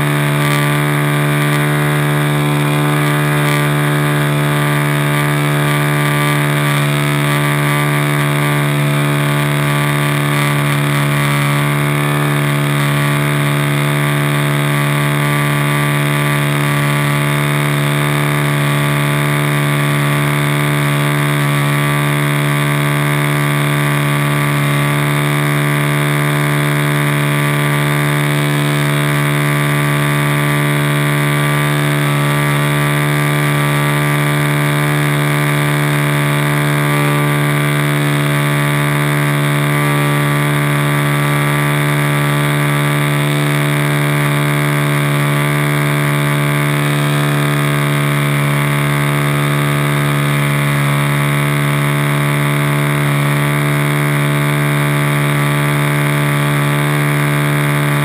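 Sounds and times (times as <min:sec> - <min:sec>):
model plane motor droning: 0:00.0 - 0:58.0.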